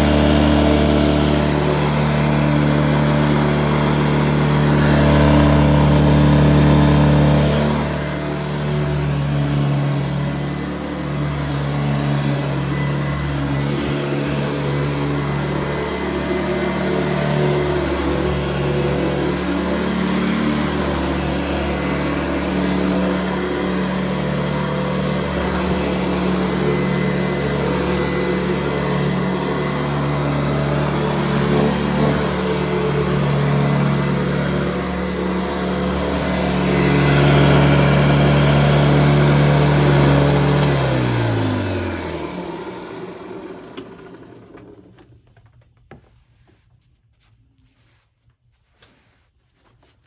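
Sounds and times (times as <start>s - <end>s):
vacuum cleaner motor droning: 0.0s - 45.3s.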